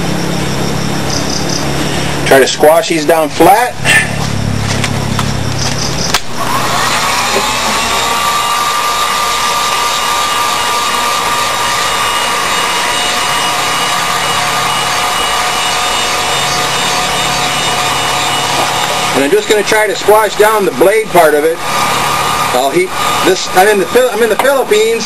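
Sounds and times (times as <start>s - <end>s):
heat gun fan whine: 0.0s - 25.0s.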